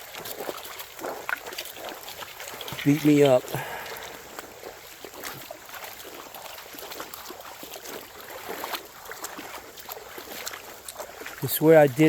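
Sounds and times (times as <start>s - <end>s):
creek water trickling and splashing: 0.0s - 12.0s.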